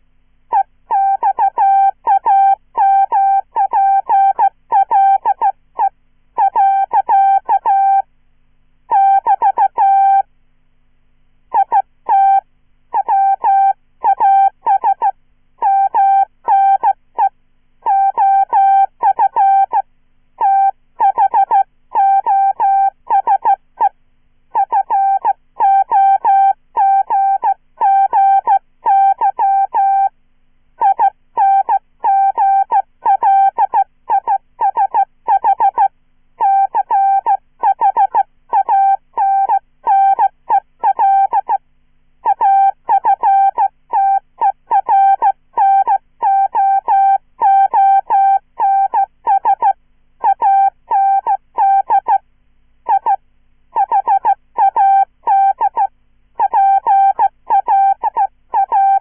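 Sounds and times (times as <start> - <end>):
morse code chirpy tone beeps: 0.5 - 8.1, 8.9 - 10.3, 11.5 - 23.9, 24.5 - 30.2, 30.8 - 41.6, 42.2 - 52.2, 52.8 - 53.2, 53.8 - 59.0.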